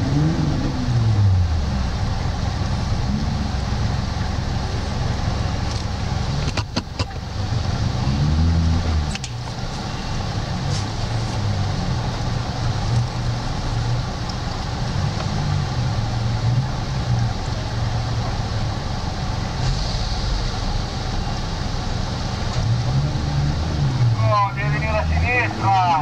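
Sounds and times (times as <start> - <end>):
vehicle engine idling and revving: 0.0 - 26.0.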